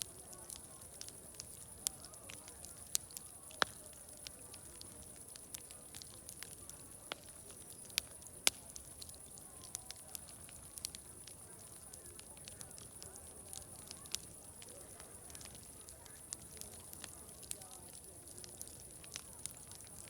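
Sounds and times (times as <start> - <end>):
distant murmur of voices: 0.0 - 20.0
wood fire crackling: 0.0 - 20.0.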